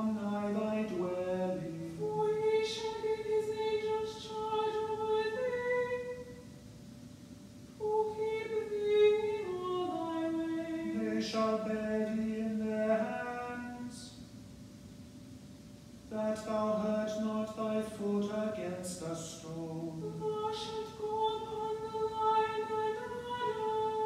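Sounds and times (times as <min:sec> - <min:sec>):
lower man's voice chanting: 0:00.0 - 0:06.3, 0:07.8 - 0:14.2, 0:16.1 - 0:24.0.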